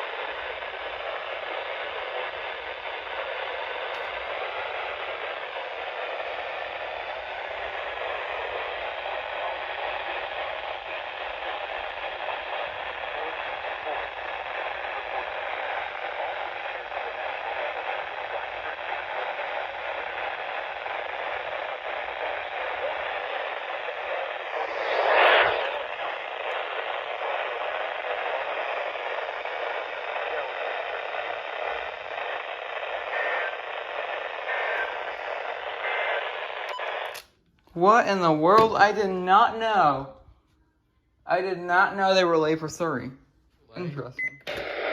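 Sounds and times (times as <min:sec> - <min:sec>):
radio static hiss: 0:00.0 - 0:40.2, 0:43.8 - 0:44.9.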